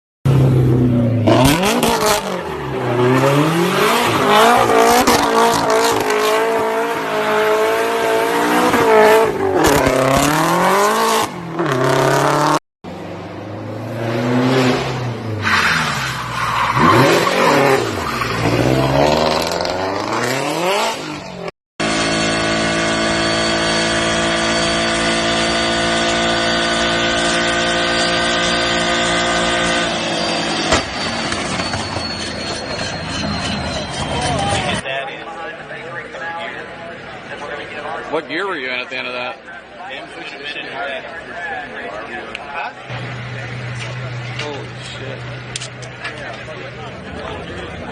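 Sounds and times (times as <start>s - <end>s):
car engines revving: 0.3s - 47.9s.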